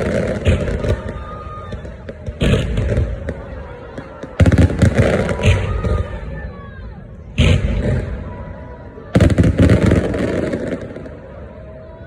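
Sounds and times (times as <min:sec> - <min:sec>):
fireworks crackling bangs: 0:00.0 - 0:11.8.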